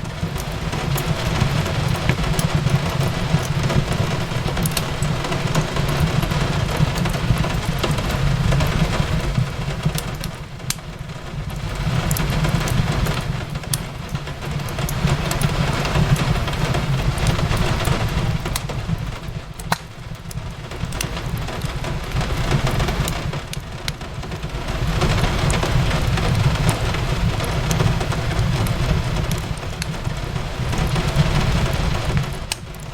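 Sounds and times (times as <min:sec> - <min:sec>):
steady rain: 0:00.0 - 0:32.9
wood fire crackling: 0:00.0 - 0:32.9.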